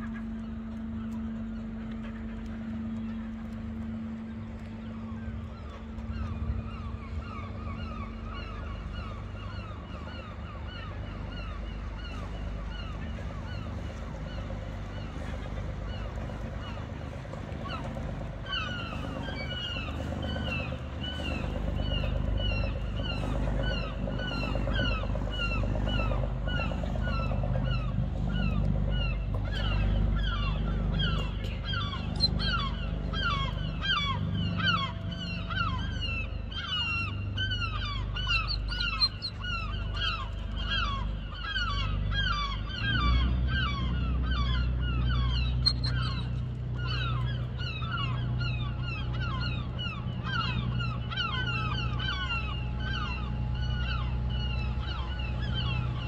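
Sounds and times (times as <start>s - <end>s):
gulls calling: 0.0s - 56.0s.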